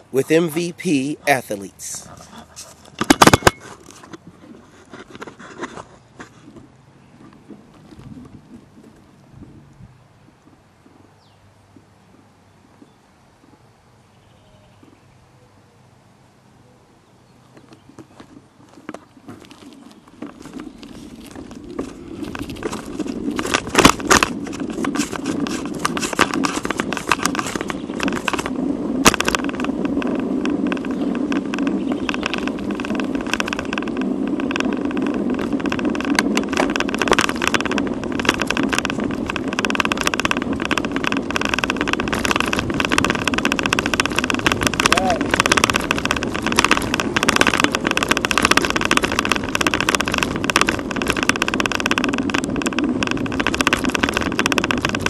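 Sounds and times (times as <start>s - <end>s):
constant rattle: 0.0s - 9.6s, 17.6s - 55.0s
wind on microphone: 0.0s - 13.7s, 17.8s - 55.0s
bicycle tyre and road rumble: 0.0s - 55.0s.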